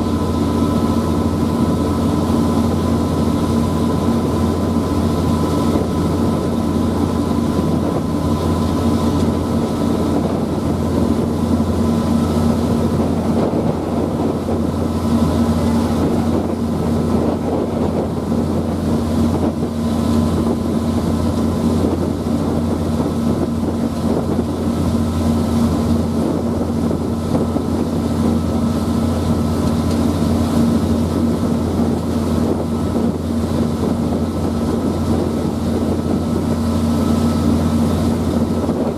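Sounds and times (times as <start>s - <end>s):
ferry engines droning: 0.0s - 38.9s
wind noise on microphone: 0.0s - 38.9s.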